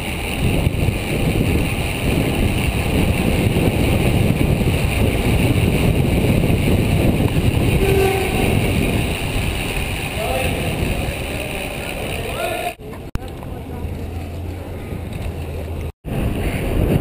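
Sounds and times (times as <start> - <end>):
wind buffeting microphone: 0.0 - 12.3, 14.7 - 17.0.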